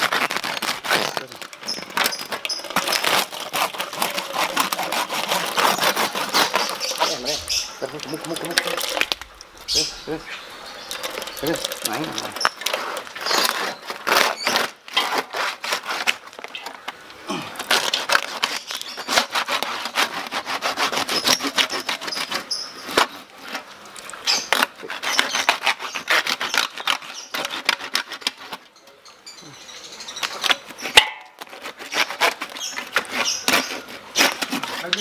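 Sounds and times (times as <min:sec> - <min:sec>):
hand saw rasping through crackling: 0:00.0 - 0:28.7, 0:30.2 - 0:35.0.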